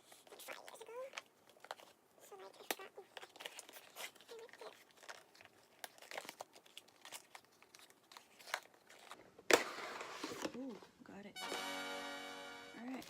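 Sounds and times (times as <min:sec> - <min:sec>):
packaging rustling and crinkling: 0:00.0 - 0:10.9.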